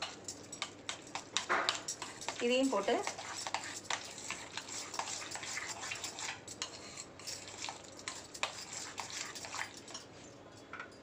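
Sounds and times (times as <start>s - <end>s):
spoon scraping steel bowl: 0.0s - 10.2s.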